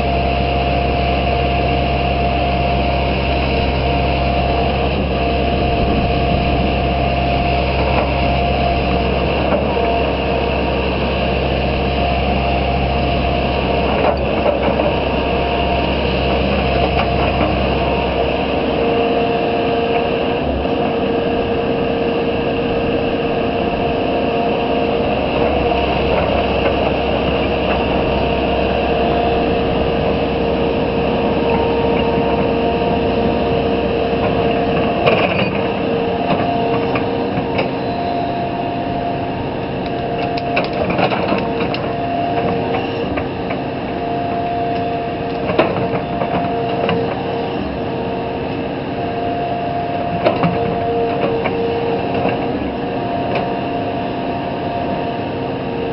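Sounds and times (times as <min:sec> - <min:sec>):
excavator diesel engine running: 0:00.0 - 0:55.9
hydraulic whine: 0:00.0 - 0:55.9.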